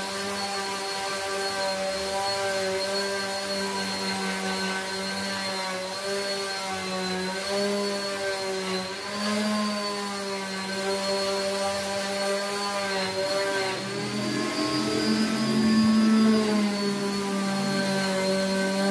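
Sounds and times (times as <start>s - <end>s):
orbital sander sanding wood: 0.0s - 18.9s.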